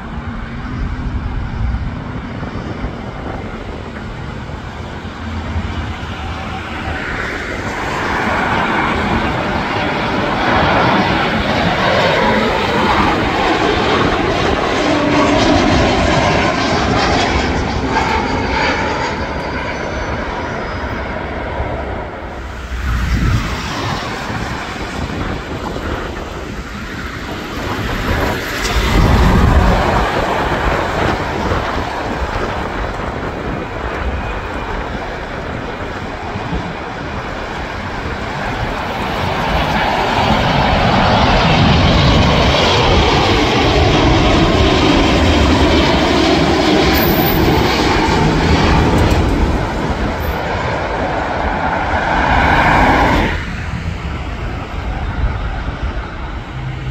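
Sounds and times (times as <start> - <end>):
jet engines rumble and whine: 0.0 - 56.9.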